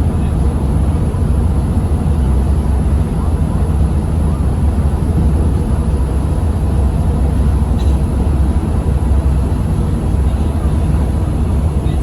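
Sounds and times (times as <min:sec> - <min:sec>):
ferry engines droning: 0:00.0 - 0:12.0.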